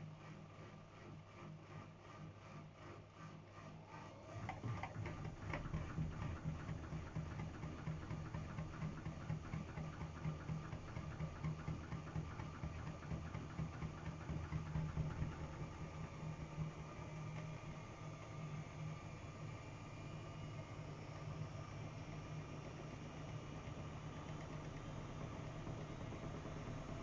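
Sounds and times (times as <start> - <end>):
washing machine motor hum: 2.6 - 27.0.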